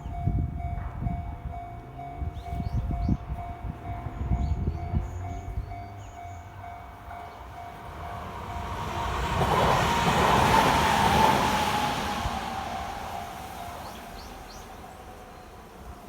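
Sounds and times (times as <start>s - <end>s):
level crossing warning bell: 0.0s - 11.5s, 12.2s - 15.2s
train rumbling past: 0.0s - 16.0s.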